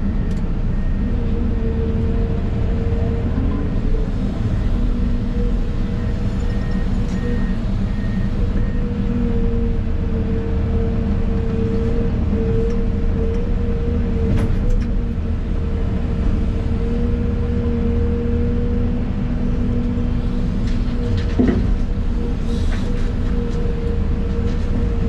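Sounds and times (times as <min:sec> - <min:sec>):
excavator engine and hydraulics: 0:00.0 - 0:25.0.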